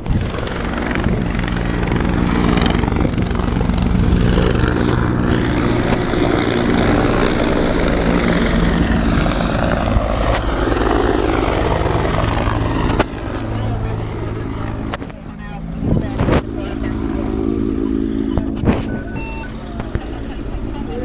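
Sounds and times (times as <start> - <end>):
helicopter engine whine: 0.0 - 21.0
helicopter rotor beat: 0.0 - 21.0.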